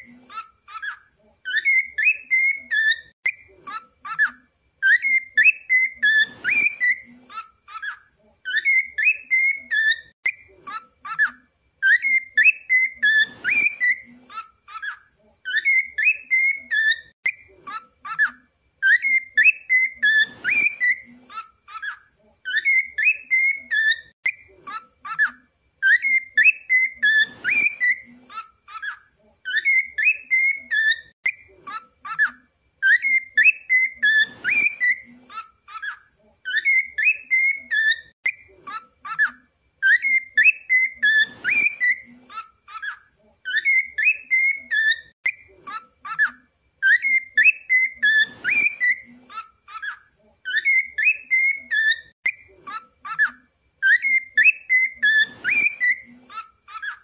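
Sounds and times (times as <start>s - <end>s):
cockatiel whistling: 0.0s - 7.1s, 7.8s - 10.4s, 11.0s - 14.1s, 14.8s - 17.4s, 18.0s - 21.1s, 21.7s - 24.4s, 25.1s - 28.1s, 28.8s - 31.4s, 32.1s - 35.1s, 35.7s - 38.4s, 39.0s - 42.1s, 42.7s - 45.4s, 46.0s - 49.1s, 49.7s - 52.4s, 53.0s - 56.1s.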